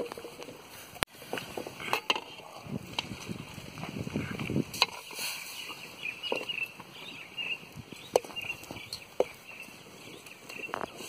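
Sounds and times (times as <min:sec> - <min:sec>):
birds chirping: 0:01.3 - 0:11.0.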